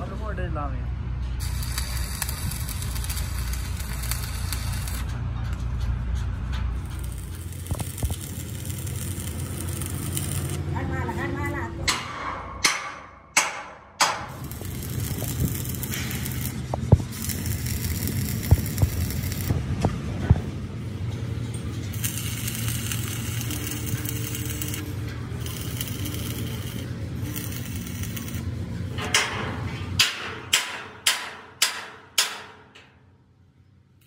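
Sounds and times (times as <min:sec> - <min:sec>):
low workshop hum: 0:00.0 - 0:34.0.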